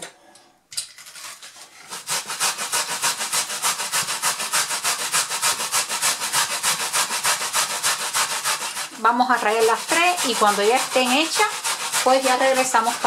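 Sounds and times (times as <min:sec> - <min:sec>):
root grated on metal grater: 0:01.0 - 0:13.0.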